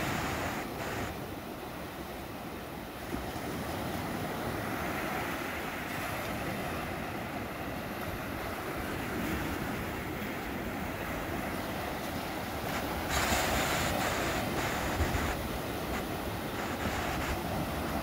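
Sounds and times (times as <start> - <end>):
waves breaking on sand: 0.0 - 18.0.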